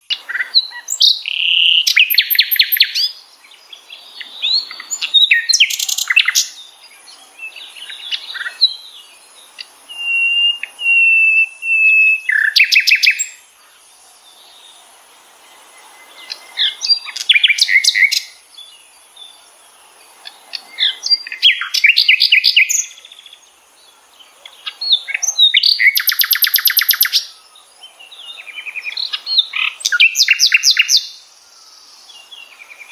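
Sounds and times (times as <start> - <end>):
faint steady high hiss: 0.0 - 32.9
wild birds singing: 0.0 - 32.9.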